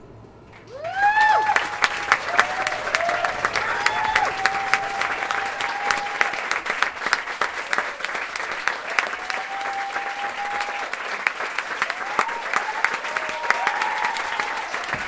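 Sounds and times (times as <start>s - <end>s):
long high call: 0.0s - 15.0s
audience applause: 0.5s - 15.0s.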